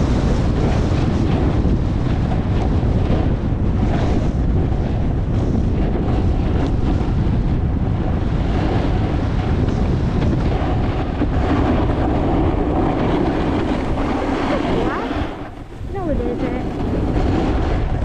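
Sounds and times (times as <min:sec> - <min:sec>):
skis sliding on hard snow: 0:00.0 - 0:18.0
wind buffeting microphone: 0:00.0 - 0:18.0.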